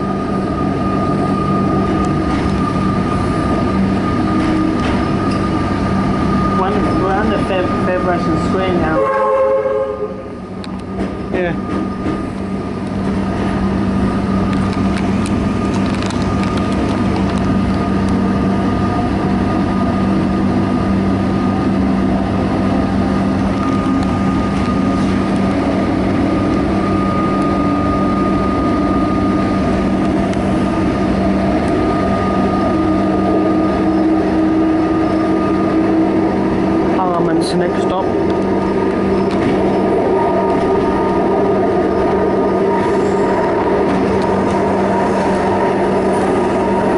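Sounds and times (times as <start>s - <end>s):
train wheels and air rushing: 0.0s - 8.7s, 10.2s - 37.1s, 37.8s - 46.9s.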